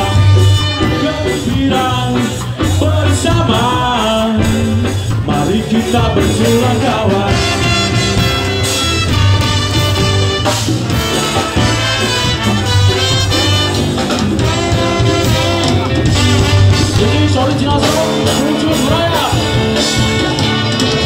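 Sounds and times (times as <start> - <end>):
ska band playing live: 0.0 - 21.0.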